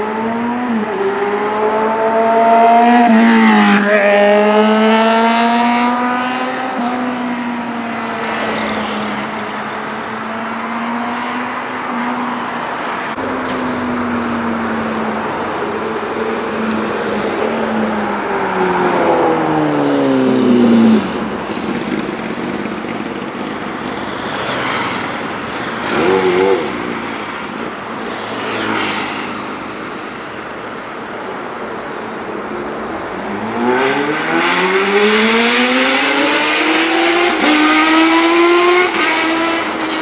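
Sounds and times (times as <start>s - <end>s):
motorcycle engine revving: 0.0s - 12.2s, 13.1s - 30.3s, 33.2s - 40.0s
motorcycles passing by: 0.0s - 40.0s.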